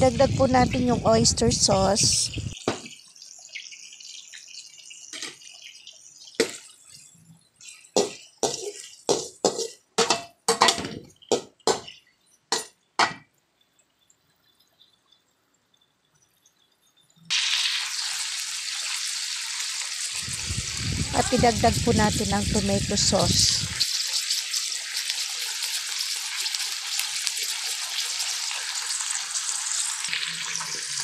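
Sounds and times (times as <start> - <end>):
meat sizzling in a wok: 0.0 - 13.2, 17.3 - 31.0.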